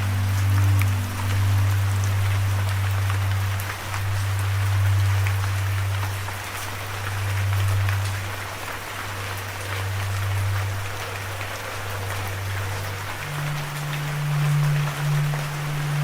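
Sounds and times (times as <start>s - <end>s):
low musical drone: 0.0s - 16.0s
rain falling: 0.0s - 16.0s
raindrops tapping: 0.0s - 16.0s.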